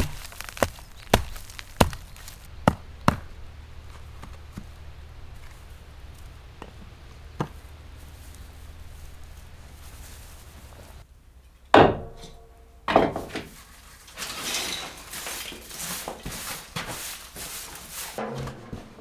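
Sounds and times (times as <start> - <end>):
scraping and rustling handling: 0.0 - 11.0, 13.2 - 18.2.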